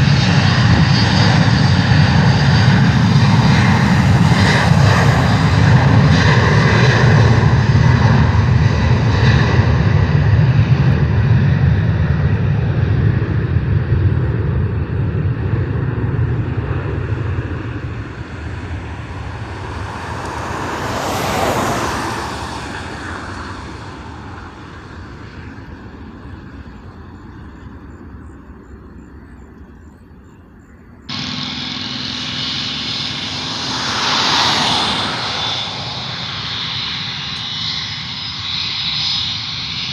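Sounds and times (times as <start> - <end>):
aircraft engine whine: 0.0 - 39.9
airliner engines running: 0.0 - 39.9.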